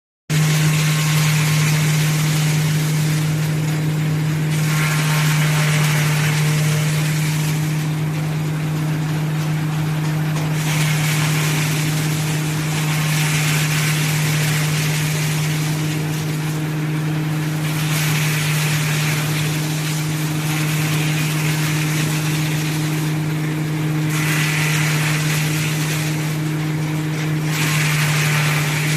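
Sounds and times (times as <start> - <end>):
low machine hum: 0.3 - 28.9.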